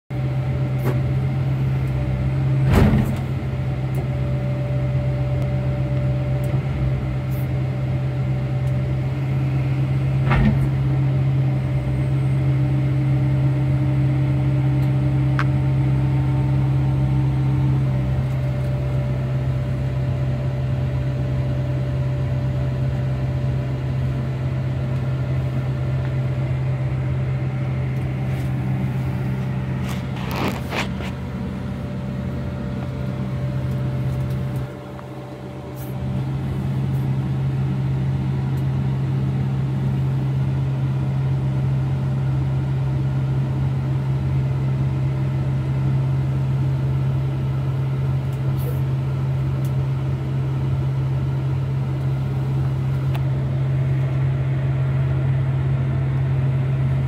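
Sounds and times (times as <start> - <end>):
diesel engine humming: 0.1 - 57.0.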